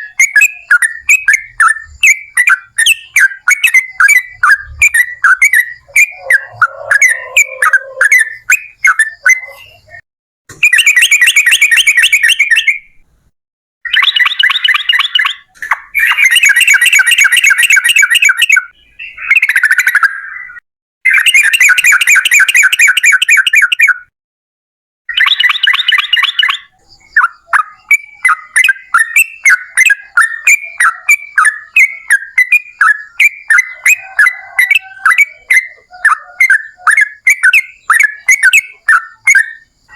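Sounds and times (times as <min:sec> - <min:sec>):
bird singing rattling trills: 0:00.0 - 0:10.0, 0:13.9 - 0:24.0, 0:25.1 - 0:39.9
bird chirps: 0:00.0 - 0:13.0, 0:13.9 - 0:24.1, 0:25.1 - 0:39.9.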